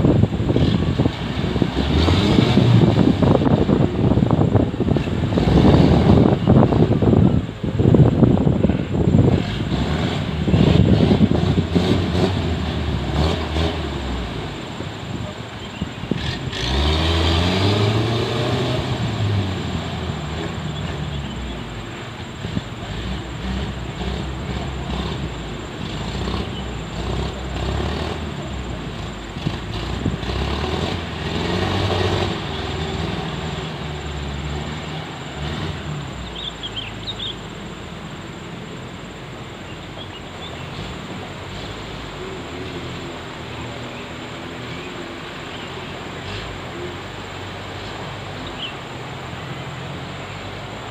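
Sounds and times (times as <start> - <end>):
off-road engine revving: 0.0 - 50.9.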